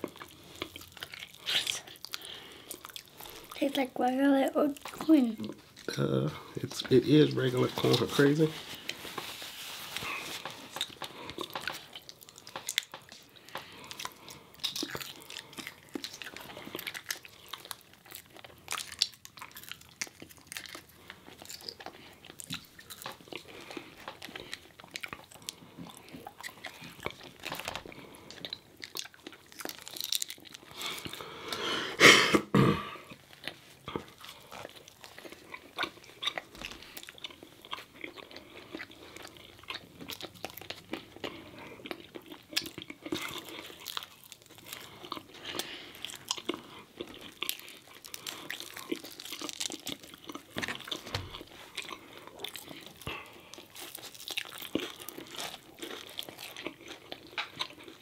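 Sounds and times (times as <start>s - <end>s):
chewing crispy food: 0.0s - 31.7s, 32.9s - 58.0s.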